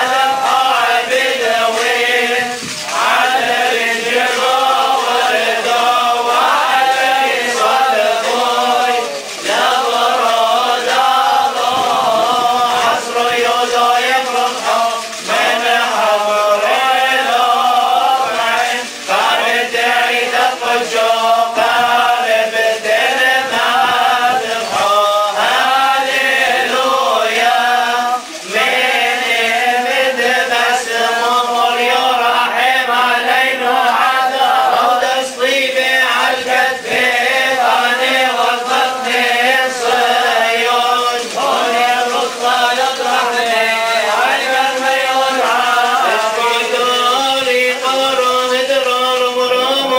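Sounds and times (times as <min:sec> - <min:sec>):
men chanting a hymn: 0:00.0 - 0:49.9.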